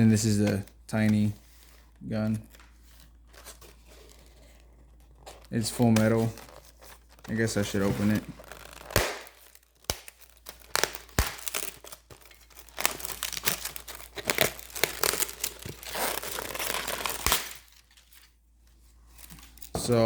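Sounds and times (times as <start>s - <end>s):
packaging crinkling and tearing: 0.0s - 18.4s.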